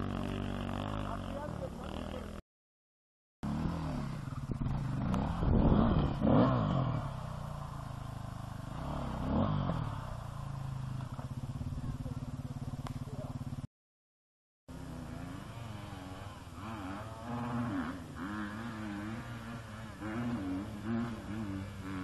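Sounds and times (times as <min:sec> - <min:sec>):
dirt bike engines revving: 0:00.0 - 0:02.4, 0:03.4 - 0:13.7, 0:14.7 - 0:22.0.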